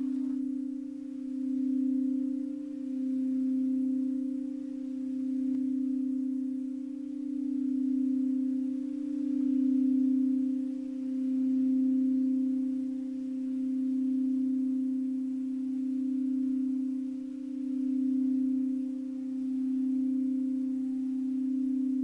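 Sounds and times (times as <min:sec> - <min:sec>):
singing bowl low tone: 0:00.0 - 0:22.0.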